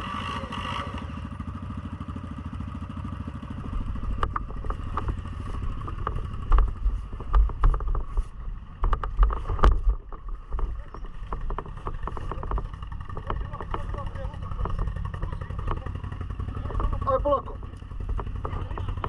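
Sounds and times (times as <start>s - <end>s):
atv engine running: 0.0s - 19.0s
knocks and rattles over rough ground: 0.0s - 19.0s.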